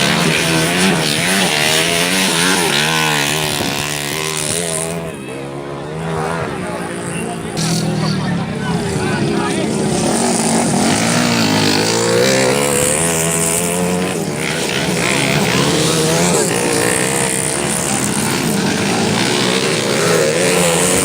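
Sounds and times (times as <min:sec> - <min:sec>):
racing motorcycle engines revving: 0:00.0 - 0:21.0.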